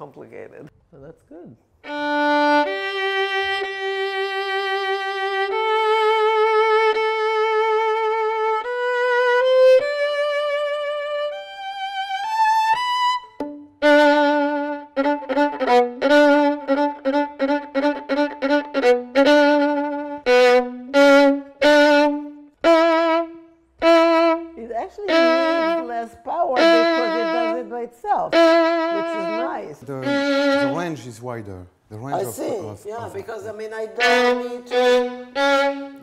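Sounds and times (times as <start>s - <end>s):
solo violin: 1.8s - 31.3s, 33.2s - 36.0s.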